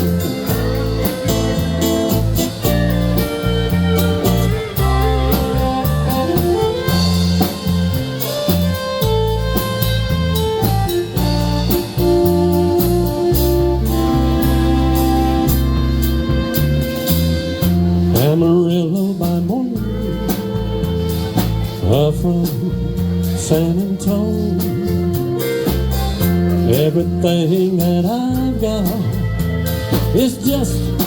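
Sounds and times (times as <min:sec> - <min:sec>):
country band playing: 0:00.0 - 0:31.0.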